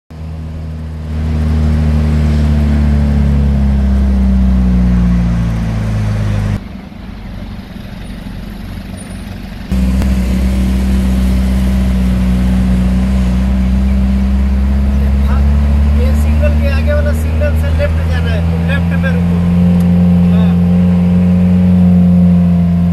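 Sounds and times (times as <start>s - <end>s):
road noise inside vehicle: 0.1s - 22.9s
vehicle engine drone: 0.1s - 22.9s.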